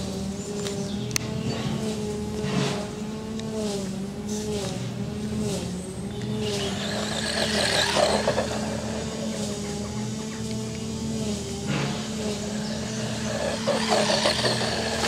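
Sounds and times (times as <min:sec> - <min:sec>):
electric motor whining: 0:00.0 - 0:15.0
tyres skidding on loose dirt: 0:00.0 - 0:15.0.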